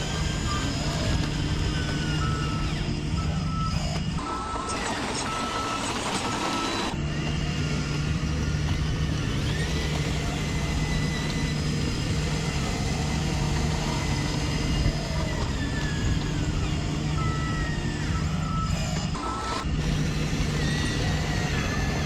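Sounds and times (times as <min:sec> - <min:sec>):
low engine-like hum: 0:00.0 - 0:22.0
reversing beeper: 0:00.0 - 0:22.0.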